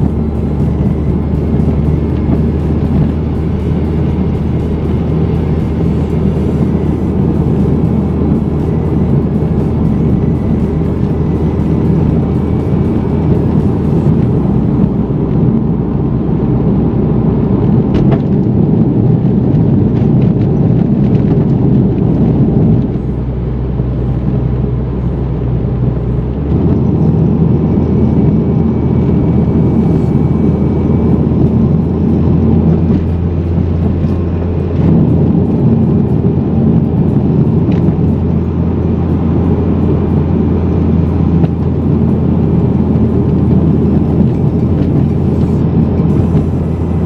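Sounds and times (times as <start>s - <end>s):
car engine under load: 0.0s - 47.0s
tyre and road noise: 0.0s - 47.0s.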